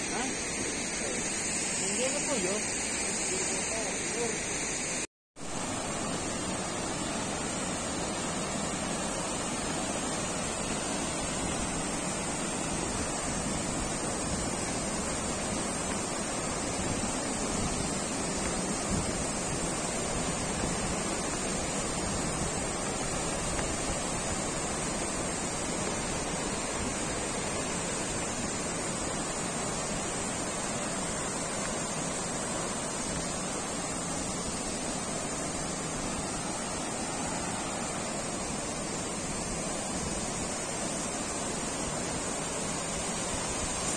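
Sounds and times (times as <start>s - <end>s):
stream running over boulders: 0.0s - 43.9s
waterfall rushing: 0.0s - 43.9s.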